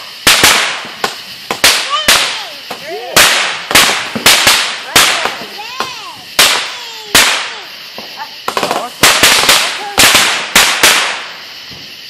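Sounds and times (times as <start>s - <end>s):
fireworks bangs: 0.0s - 12.0s
fireworks whistling: 0.0s - 12.0s.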